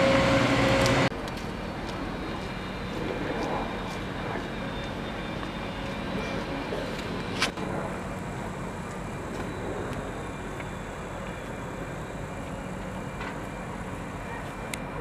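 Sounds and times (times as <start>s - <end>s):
diesel engines rumbling: 0.0s - 15.0s.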